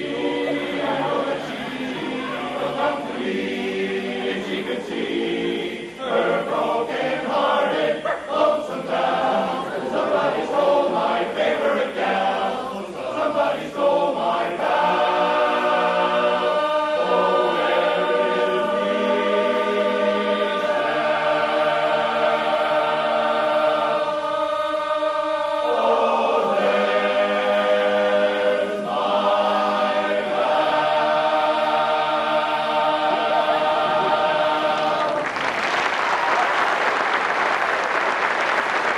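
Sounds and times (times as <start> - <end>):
men's chorus singing a cappella: 0.0 - 35.3.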